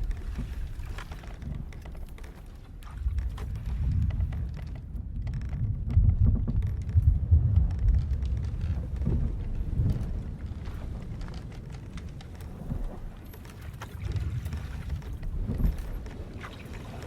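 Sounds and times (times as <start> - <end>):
rumbling wash of sea: 0.0 - 17.0.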